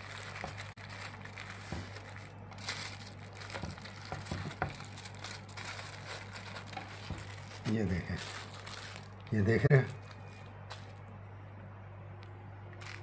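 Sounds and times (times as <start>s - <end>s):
paper crinkling and rustling: 0.0s - 11.0s, 12.8s - 13.0s
low steady hum: 0.0s - 13.0s.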